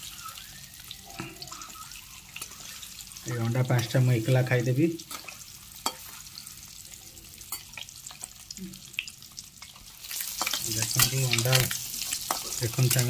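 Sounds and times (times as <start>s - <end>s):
eggs sizzling in hot oil: 0.0s - 13.0s.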